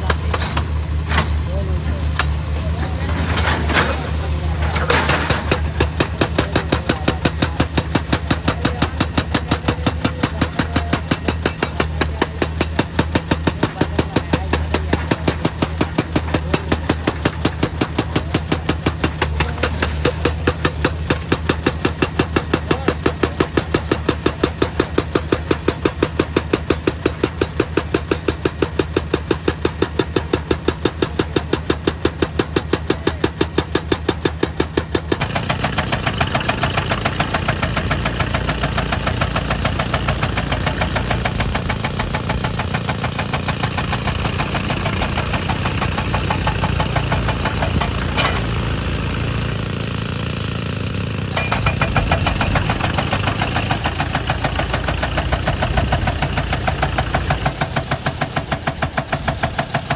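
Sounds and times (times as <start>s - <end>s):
diesel engine running: 0.0s - 27.3s, 27.9s - 59.9s
hydraulic breaker hammering rock: 0.0s - 59.9s.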